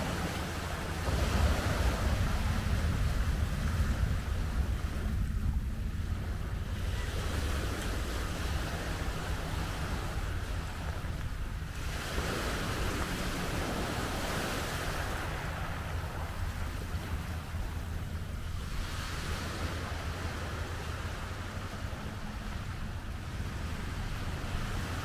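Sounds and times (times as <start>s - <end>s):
small waves washing on beach: 0.0s - 25.0s
wind rumble on microphone: 0.0s - 25.0s.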